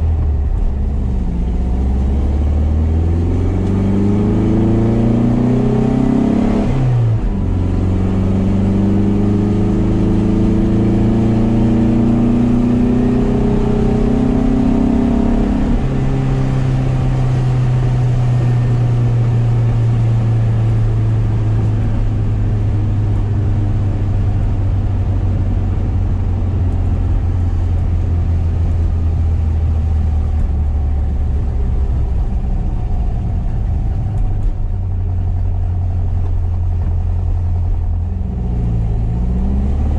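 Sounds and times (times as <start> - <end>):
car engine upshifting and cruising: 0.0 - 39.9.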